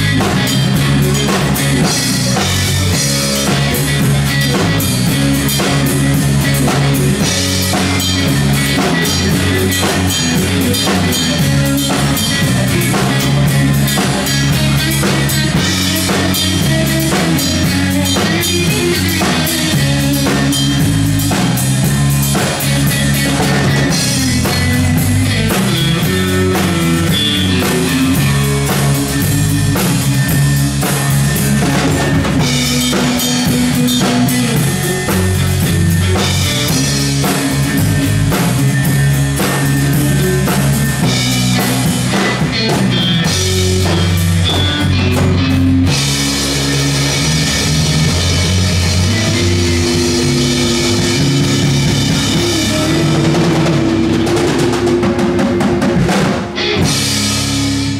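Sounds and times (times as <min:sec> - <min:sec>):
bass line: 0:00.0 - 0:57.9
drum kit beat: 0:00.0 - 0:57.9
electric and acoustic guitars: 0:00.0 - 0:57.9.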